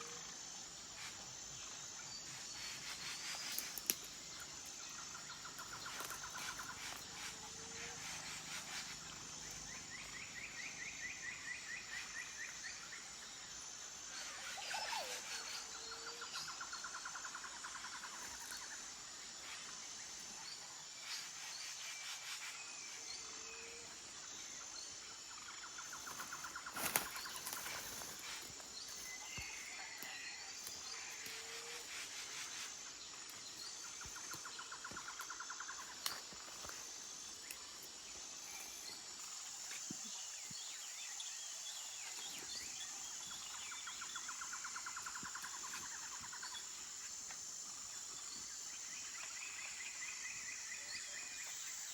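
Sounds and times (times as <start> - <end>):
high-pitched insect drone: 0.0 - 51.9.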